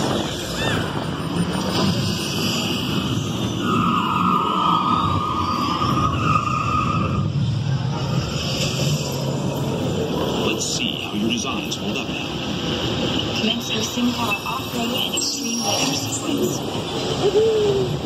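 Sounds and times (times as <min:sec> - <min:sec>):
ride vehicle rumble: 0:00.0 - 0:18.0.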